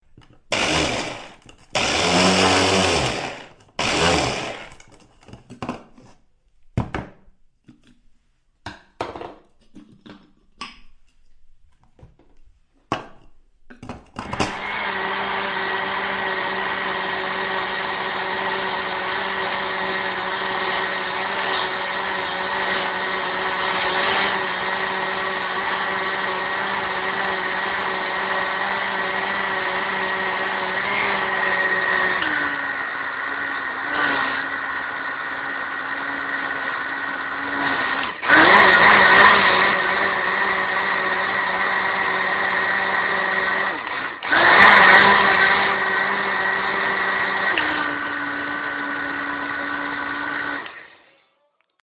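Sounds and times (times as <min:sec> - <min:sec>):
electric blender motor whine: 0:00.5 - 0:05.0, 0:14.2 - 0:51.5.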